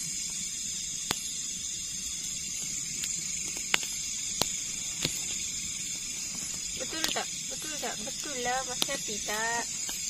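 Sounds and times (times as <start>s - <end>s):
night insects chorus: 0.0s - 10.0s.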